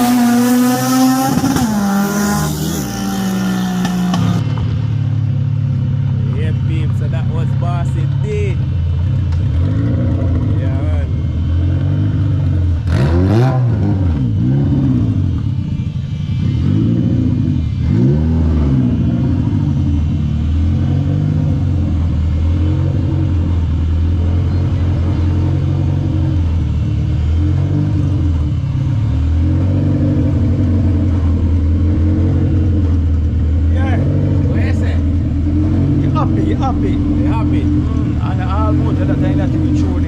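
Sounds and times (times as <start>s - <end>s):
car engine revving and idling: 0.0s - 40.0s.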